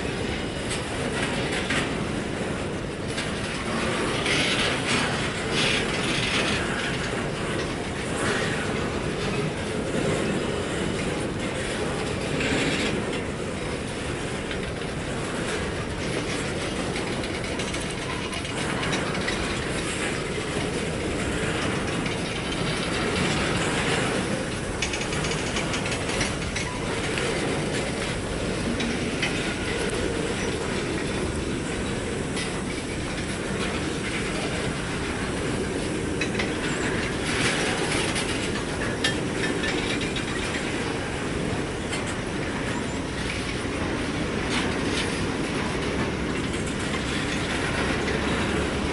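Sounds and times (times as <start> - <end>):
freight train wheels clacking on rails: 0.0 - 48.9.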